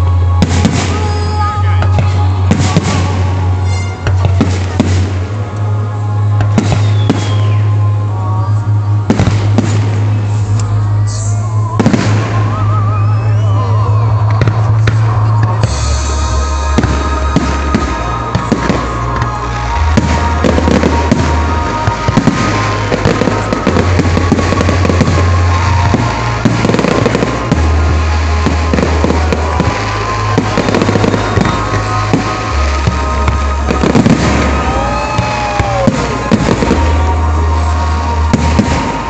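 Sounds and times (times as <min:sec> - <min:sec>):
fireworks bursting and crackling: 0:00.0 - 0:39.0
loud music with heavy bass: 0:00.0 - 0:39.0.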